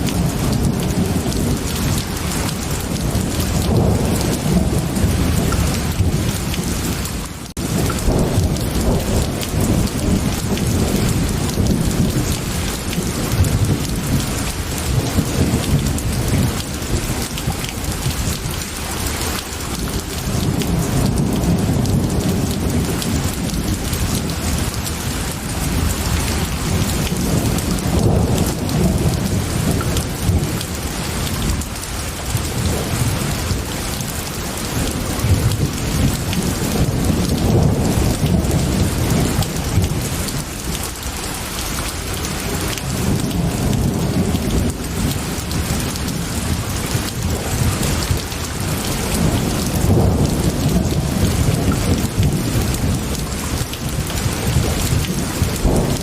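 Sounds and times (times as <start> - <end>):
low rolling thunder: 0.0 - 41.2, 41.9 - 56.0
heavy rain: 0.0 - 56.0.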